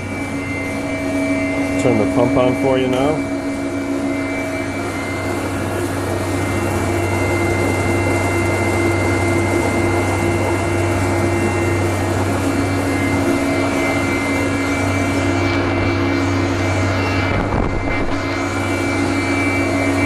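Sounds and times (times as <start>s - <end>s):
mixer electric hum with whine: 0.0s - 20.0s
pump recirculating water: 0.0s - 20.0s.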